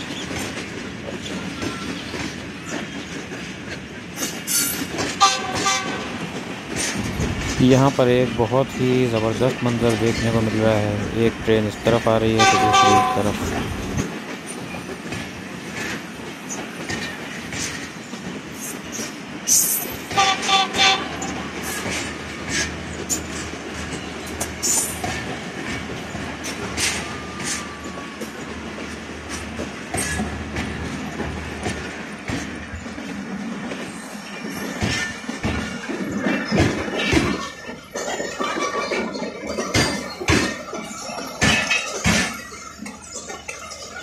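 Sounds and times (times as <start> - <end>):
train wheels clacking over rail joints: 0.0 - 44.0.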